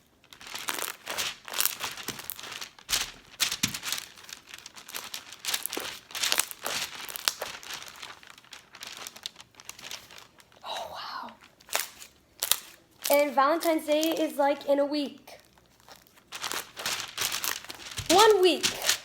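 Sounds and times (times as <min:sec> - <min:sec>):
slime crackling and popping: 0:00.0 - 0:14.4, 0:15.4 - 0:19.0.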